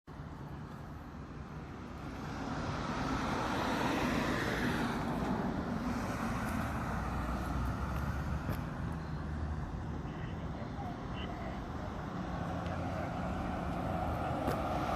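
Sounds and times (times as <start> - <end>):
road and tyre noise: 0.0 - 14.9.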